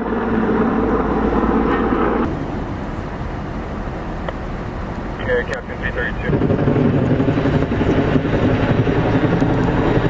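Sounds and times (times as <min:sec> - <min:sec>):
diesel engine rumbling: 0:00.0 - 0:10.0
steady rushing noise: 0:00.0 - 0:10.0.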